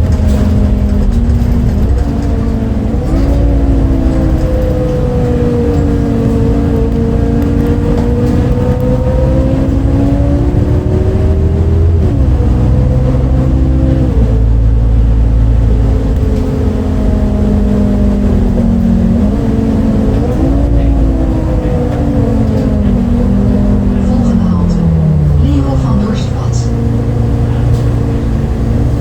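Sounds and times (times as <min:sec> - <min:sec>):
bus diesel engine pulling: 0:00.0 - 0:29.0.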